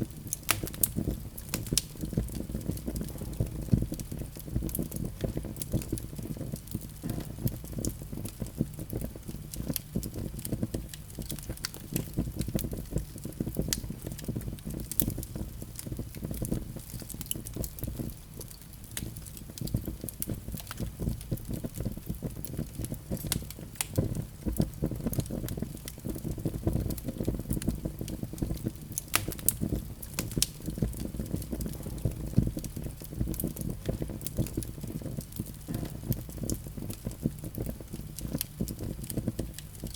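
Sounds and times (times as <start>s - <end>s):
fireplace fire crackling: 0.0s - 39.9s
low rumble of flames: 0.0s - 39.9s.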